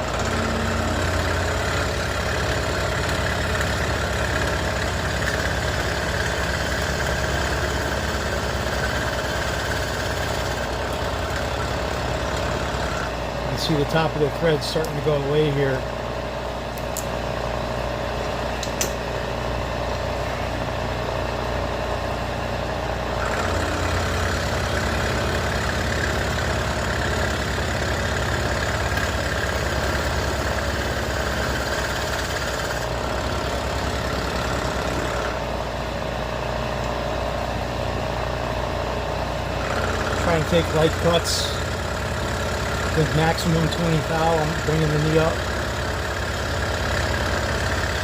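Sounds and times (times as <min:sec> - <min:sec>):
end mill cutting metal: 0:00.0 - 0:48.0
milling machine motor hum: 0:00.0 - 0:48.0.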